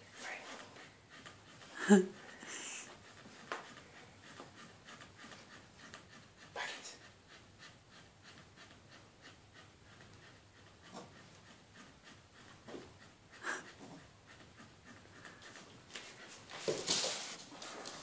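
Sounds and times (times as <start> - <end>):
dogs panting: 0.0 - 18.0
dog huffing: 0.8 - 17.4.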